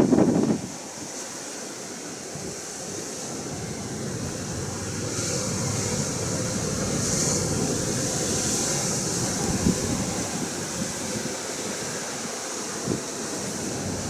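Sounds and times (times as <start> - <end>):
wind rumbling on microphone: 0.0 - 0.9, 2.2 - 14.0
surf washing against shore: 0.0 - 14.0.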